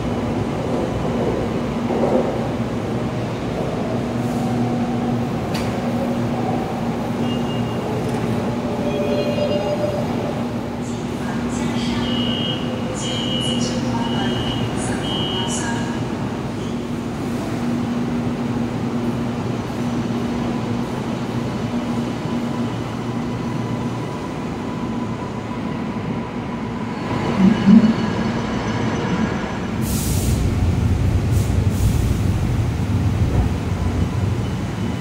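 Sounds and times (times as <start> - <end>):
low train rumble: 0.0 - 35.0
metro train hum: 0.0 - 35.0.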